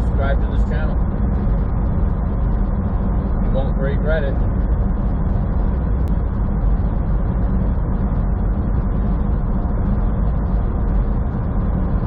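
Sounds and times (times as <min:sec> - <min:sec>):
truck engine drone: 0:00.0 - 0:12.0
tyre and road noise: 0:00.0 - 0:12.0.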